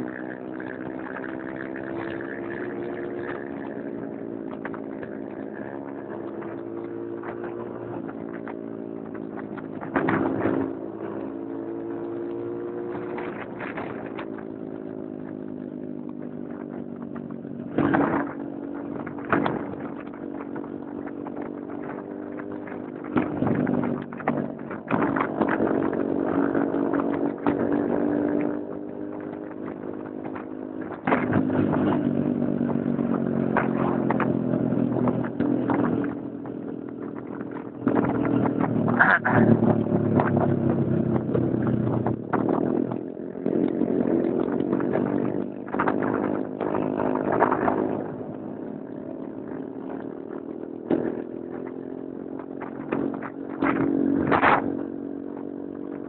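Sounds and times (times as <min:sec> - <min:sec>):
wind rushing over microphone: 0:00.0 - 0:15.0, 0:15.7 - 0:56.0
small motorcycle engine running: 0:00.0 - 0:56.0.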